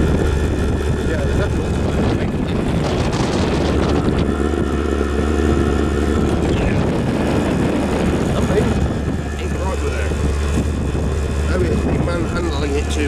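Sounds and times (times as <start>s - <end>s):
diesel heater combustion roar: 0.0s - 13.0s
fan hum: 0.0s - 13.0s.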